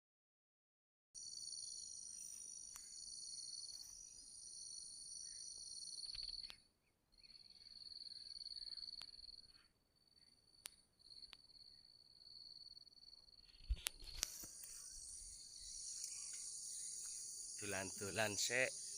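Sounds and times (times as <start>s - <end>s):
insects chirring: 1.2s - 18.9s.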